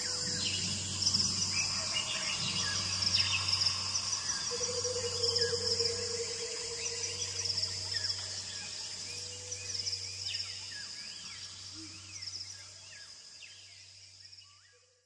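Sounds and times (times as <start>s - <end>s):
insect chorus pulsing: 0.0s - 15.0s.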